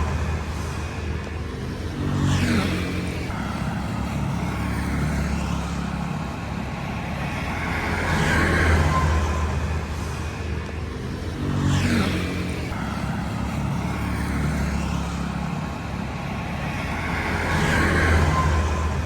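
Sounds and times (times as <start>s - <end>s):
vehicle engines running: 0.0s - 19.0s
vehicles passing close by: 0.0s - 19.0s.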